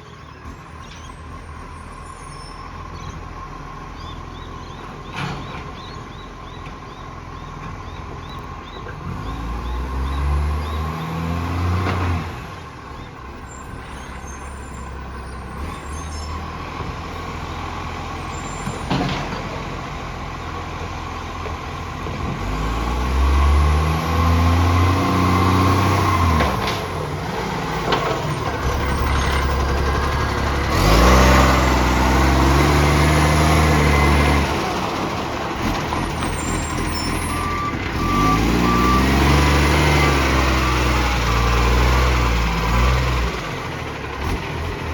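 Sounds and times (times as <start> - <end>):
truck diesel engine revving: 0.0 - 44.9.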